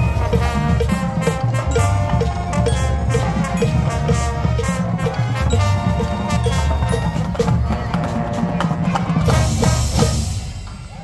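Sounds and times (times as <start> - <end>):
brass chords: 0.0 - 10.8
heavy drums: 0.0 - 11.0.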